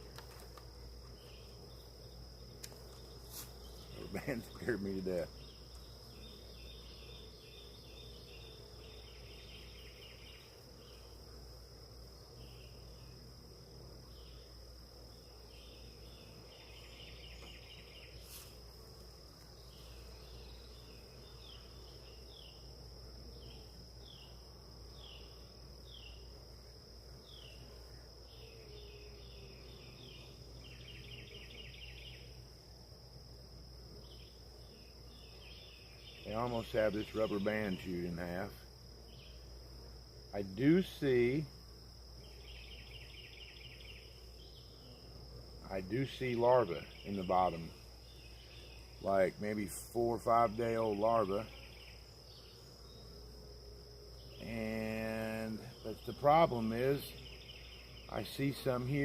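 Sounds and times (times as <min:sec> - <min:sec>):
insects chirping in trills: 0:00.0 - 0:59.0.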